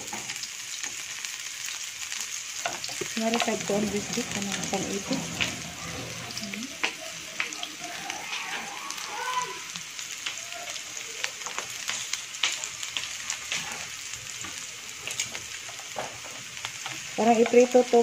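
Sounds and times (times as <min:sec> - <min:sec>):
shallots sizzling in hot oil: 0:00.0 - 0:18.0.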